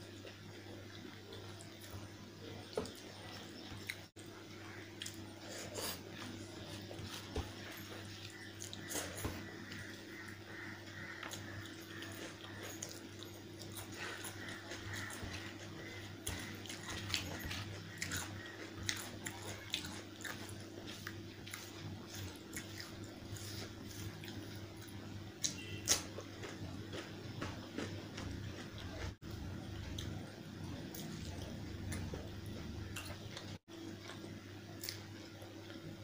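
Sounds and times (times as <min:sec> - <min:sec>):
steady low hum: 0:00.0 - 0:36.0
person chewing food: 0:00.1 - 0:35.9.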